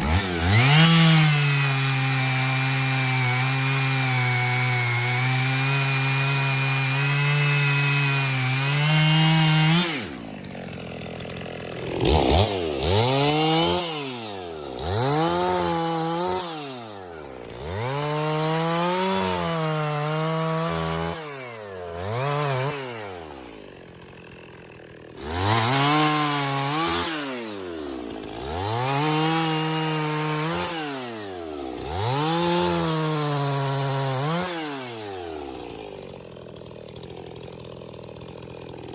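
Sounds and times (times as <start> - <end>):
chainsaw cutting and revving: 0.0 - 38.9.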